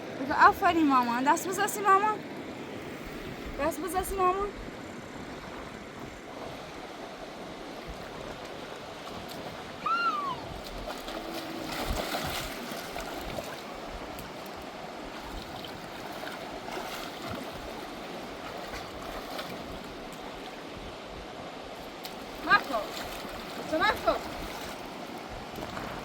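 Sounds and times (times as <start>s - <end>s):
fast river rushing: 0.0s - 26.0s.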